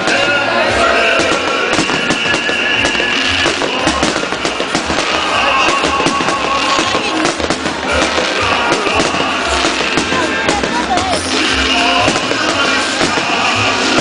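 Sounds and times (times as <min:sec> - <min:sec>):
fireworks banging and crackling: 0:00.0 - 0:14.0
music playing: 0:00.0 - 0:14.0.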